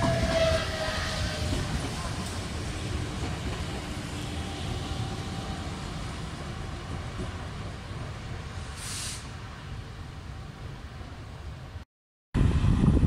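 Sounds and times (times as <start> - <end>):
train wheels rumbling: 0.0 - 11.1.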